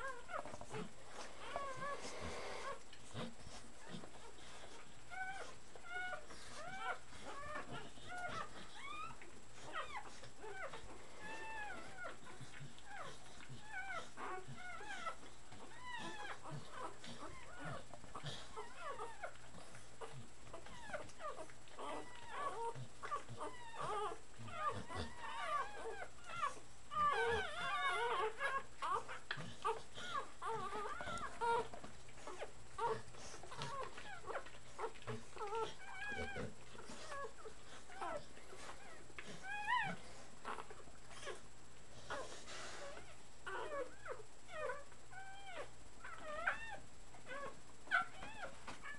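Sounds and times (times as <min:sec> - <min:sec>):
puppies whimpering and squeaking: 0:00.0 - 0:48.9.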